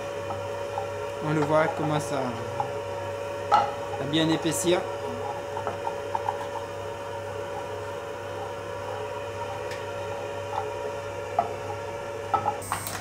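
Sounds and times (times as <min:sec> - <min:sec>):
gas flame hum: 0:00.0 - 0:13.0.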